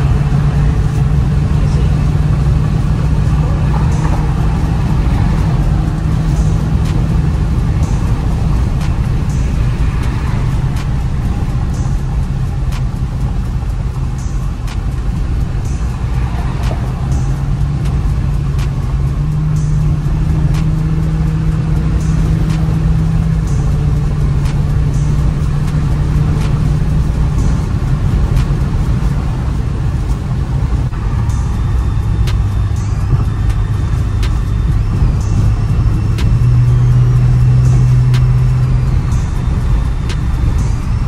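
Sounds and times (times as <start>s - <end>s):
car engine and tire rumble: 0.0s - 41.0s
music playing: 0.0s - 41.0s.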